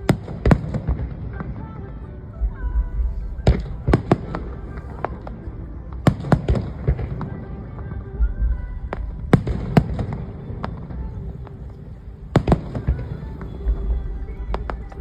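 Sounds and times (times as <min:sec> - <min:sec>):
fireworks bursting: 0:00.0 - 0:15.0
music playing: 0:00.0 - 0:15.0
low rumble: 0:02.4 - 0:15.0.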